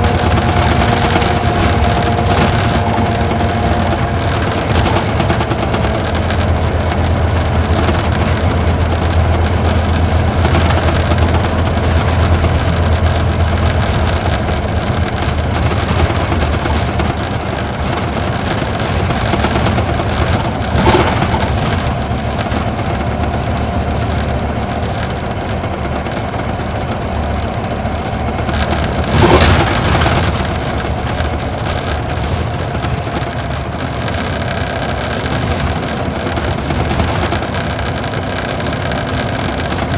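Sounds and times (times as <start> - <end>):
bus diesel engine drone: 0.0 - 39.9
road and tyre noise: 0.0 - 39.9.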